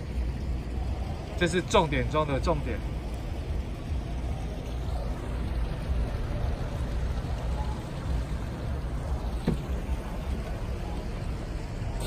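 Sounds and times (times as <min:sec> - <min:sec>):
even wash of noise: 0:00.0 - 0:12.0
steady low rumble: 0:00.0 - 0:12.0.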